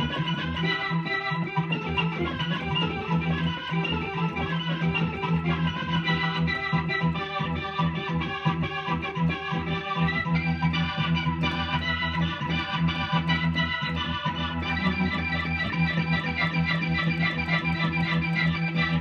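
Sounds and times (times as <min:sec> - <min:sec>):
rock organ solo: 0:00.0 - 0:19.0.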